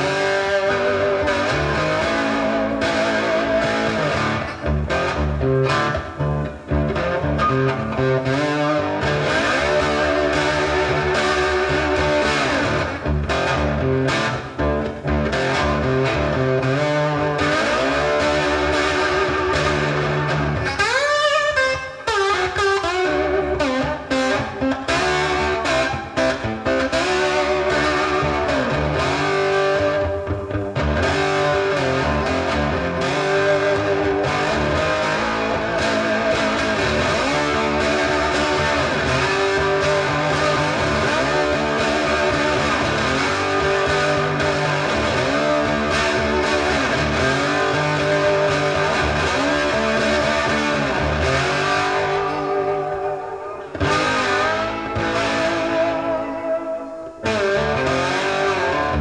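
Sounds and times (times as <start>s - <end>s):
blues electric guitar: 0.0s - 59.0s
steady bass line: 0.0s - 59.0s.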